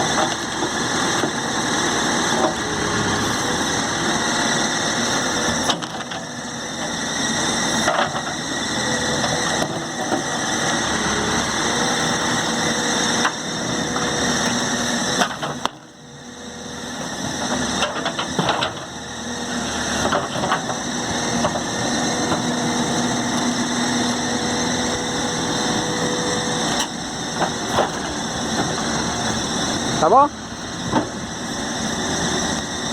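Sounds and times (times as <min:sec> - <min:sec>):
engine running: 0:00.0 - 0:32.9.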